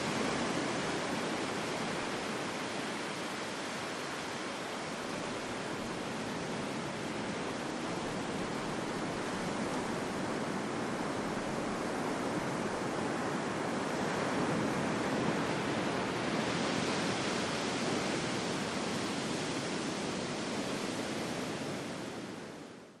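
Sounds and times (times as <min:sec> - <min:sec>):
ocean waves breaking: 0:00.0 - 0:22.3.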